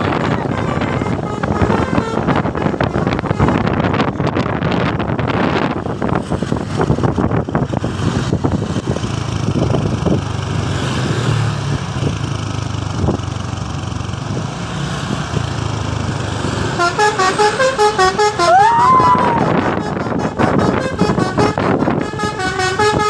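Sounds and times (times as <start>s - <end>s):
wind buffeting microphone: 0.0s - 16.7s, 18.0s - 23.0s
bus engine humming: 0.0s - 23.0s
road noise: 0.0s - 23.0s.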